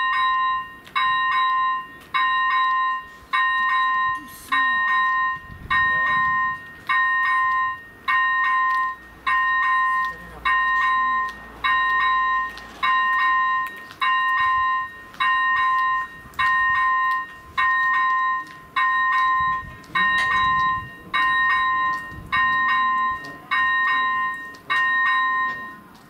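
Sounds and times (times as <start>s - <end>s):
electronic warning bell chiming: 0.0s - 25.9s.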